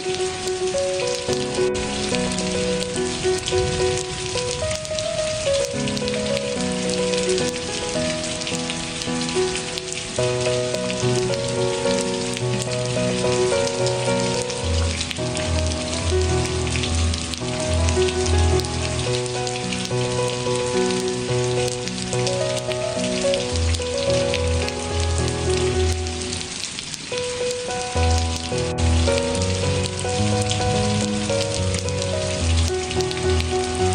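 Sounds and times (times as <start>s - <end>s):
soft instrumental music: 0.0s - 33.9s
steady rain falling: 0.0s - 33.9s.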